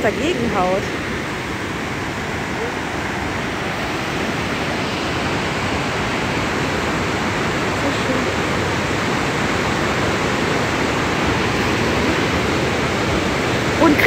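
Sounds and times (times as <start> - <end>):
rapids rushing against rocks: 0.0 - 14.0.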